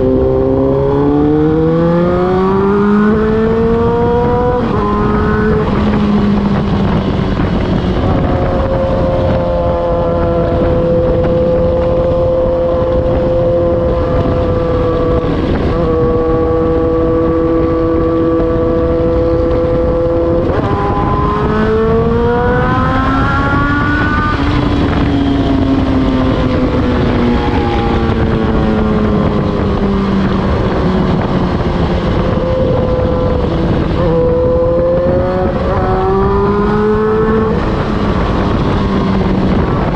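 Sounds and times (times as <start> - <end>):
motorcycle engine exhaust note: 0.0 - 39.9
steady rushing noise: 0.0 - 39.9.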